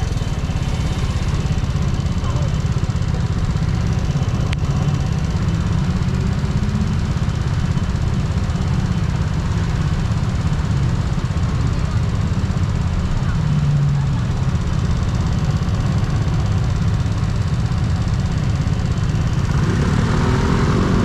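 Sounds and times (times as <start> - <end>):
scooter engine running: 0.0 - 21.0.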